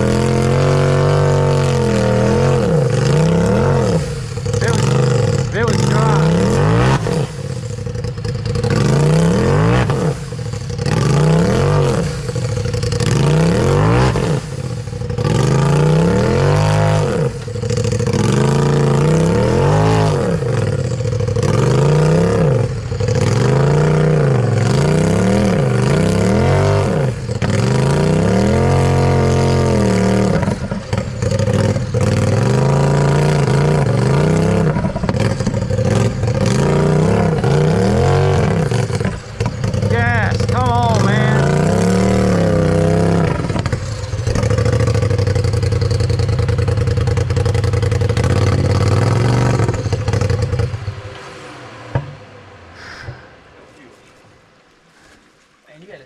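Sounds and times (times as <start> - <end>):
engine revving in short bursts: 0.0 - 53.4.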